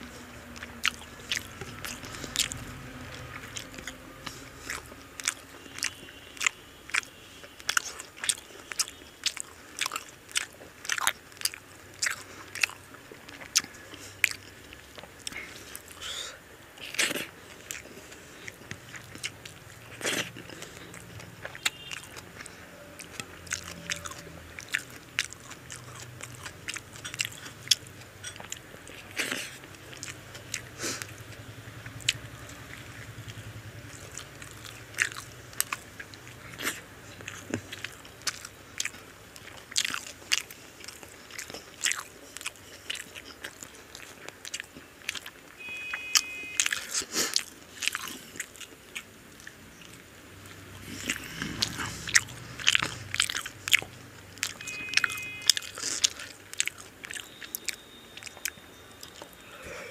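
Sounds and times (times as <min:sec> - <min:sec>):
person chewing with wet smacks: 0:00.0 - 0:59.8.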